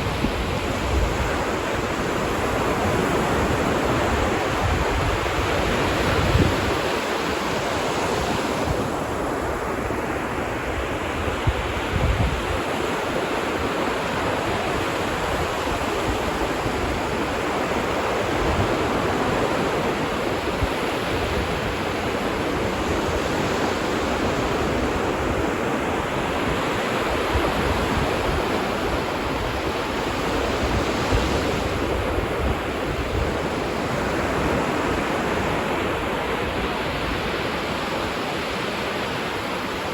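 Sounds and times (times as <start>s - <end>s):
waves washing onto beach: 0.0s - 39.9s
wind gusts on microphone: 0.0s - 39.9s.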